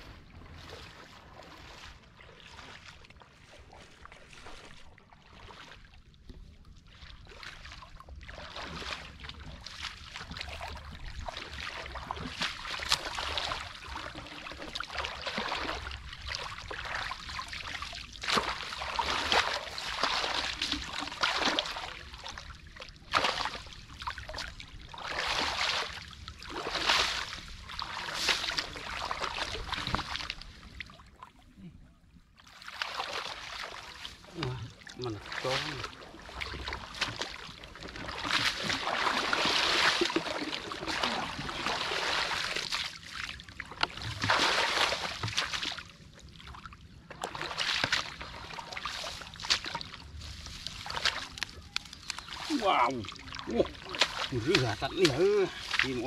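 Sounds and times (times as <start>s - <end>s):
floodwater splashing and sloshing: 0.0s - 56.0s.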